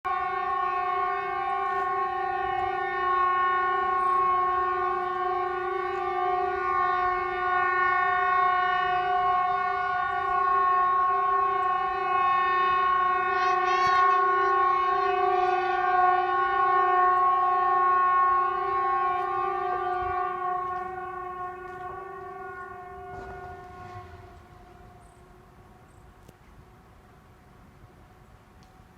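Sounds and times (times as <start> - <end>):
horn-like drone in the sky: 0.0 - 28.9.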